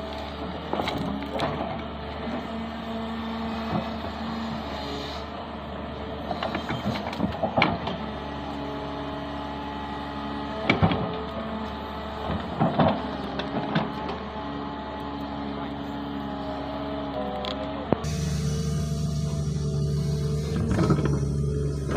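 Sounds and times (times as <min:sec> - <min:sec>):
excavator engine and hydraulics: 0:00.0 - 0:21.9.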